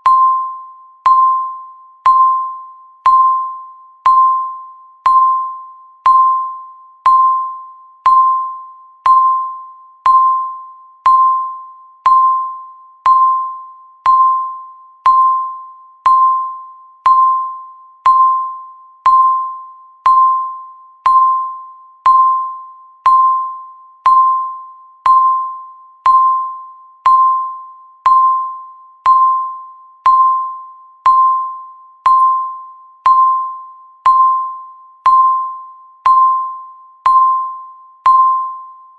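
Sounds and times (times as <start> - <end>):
countdown timer beeps: 0.0 - 38.9.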